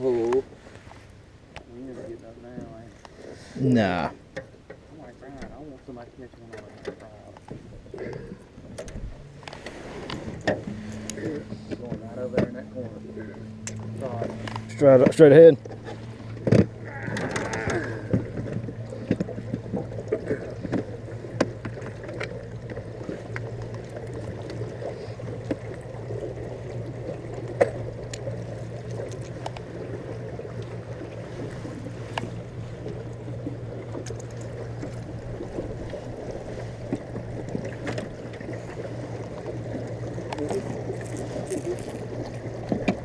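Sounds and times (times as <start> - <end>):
small boat motor humming: 0.0 - 43.0
water churning along hull: 0.0 - 43.0.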